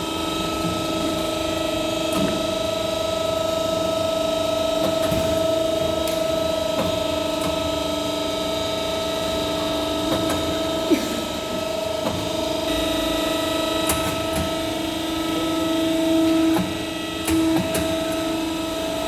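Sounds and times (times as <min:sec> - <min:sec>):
machine running with steady whine: 0:00.0 - 0:19.0.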